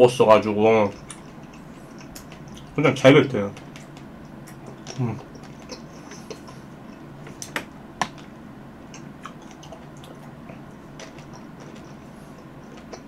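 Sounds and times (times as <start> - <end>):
chewing with biting clicks: 0.9 - 2.8, 3.4 - 8.3, 8.9 - 13.0.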